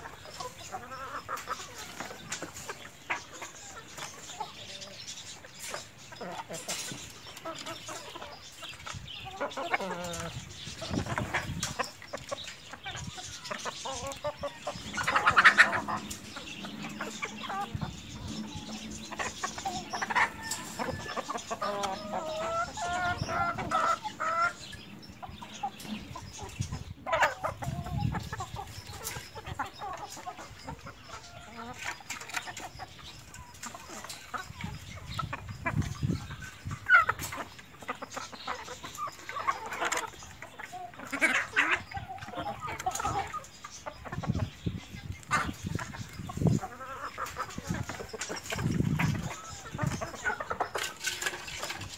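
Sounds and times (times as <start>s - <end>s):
chickens clucking and calling: 0.0s - 51.9s.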